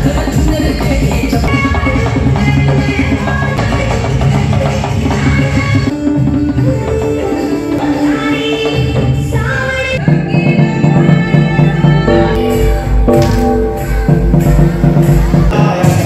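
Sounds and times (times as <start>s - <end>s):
loud music with singing and percussion: 0.0s - 16.0s.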